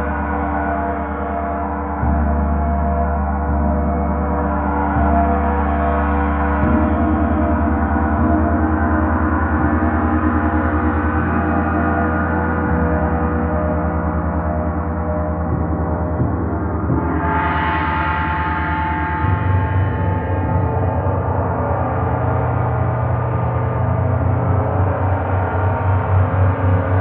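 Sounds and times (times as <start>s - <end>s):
shimmering gong: 0.0s - 27.0s.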